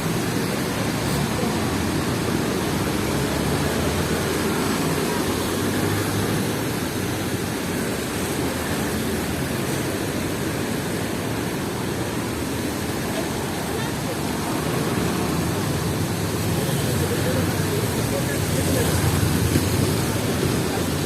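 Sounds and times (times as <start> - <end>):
wet city street traffic and rain: 0.0 - 21.0.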